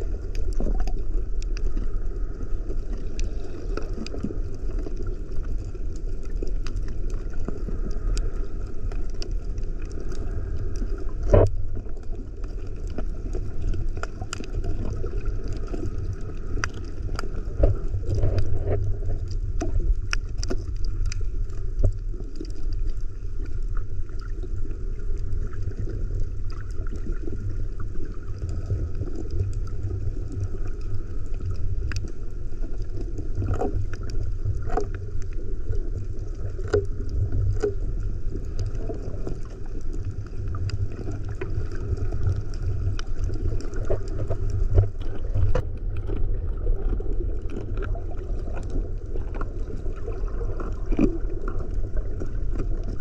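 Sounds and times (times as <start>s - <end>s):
muffled underwater rumble: 0.0s - 53.0s.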